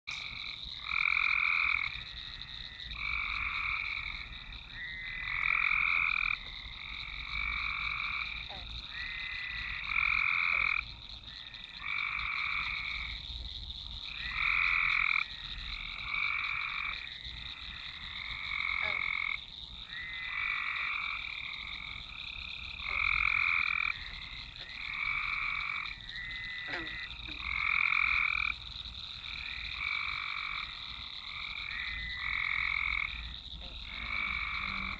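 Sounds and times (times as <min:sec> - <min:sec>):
frogs calling: 0:00.1 - 0:34.9.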